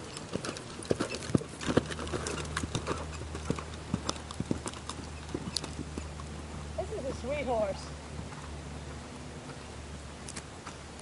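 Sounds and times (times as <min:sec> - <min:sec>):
horse hoofbeats on sand: 0:00.0 - 0:09.7.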